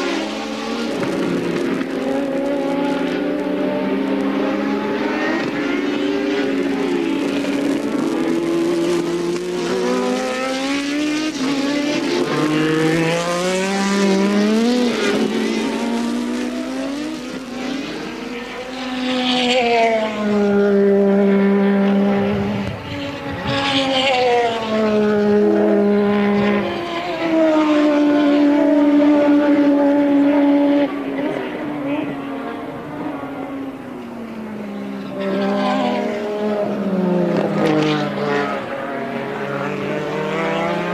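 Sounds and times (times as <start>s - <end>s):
race car engines at high revs: 0.0s - 40.9s
race cars passing loudly: 0.0s - 40.9s.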